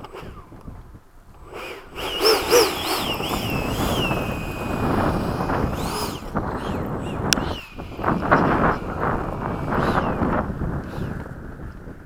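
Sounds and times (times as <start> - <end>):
electric ducted fan whining: 0.0 - 12.0
wind noise on microphone: 0.0 - 12.0.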